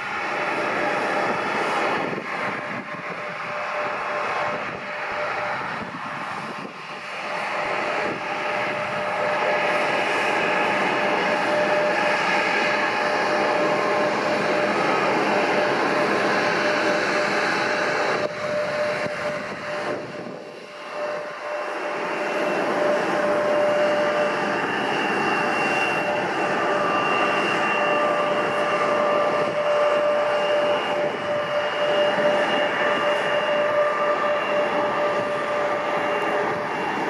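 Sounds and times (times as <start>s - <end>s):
high engine whine: 0.0s - 37.0s
jet engines roaring: 0.0s - 37.0s.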